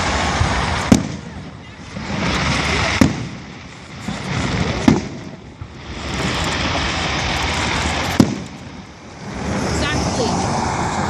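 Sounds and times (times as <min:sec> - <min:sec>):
firework bang: 0:00.0 - 0:11.0
fireworks rushing: 0:00.0 - 0:11.0.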